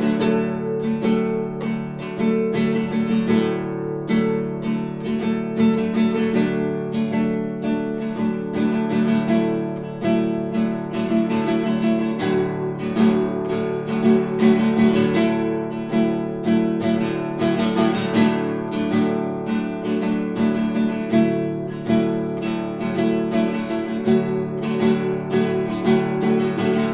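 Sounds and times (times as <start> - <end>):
classical guitar playing: 0.0 - 26.9.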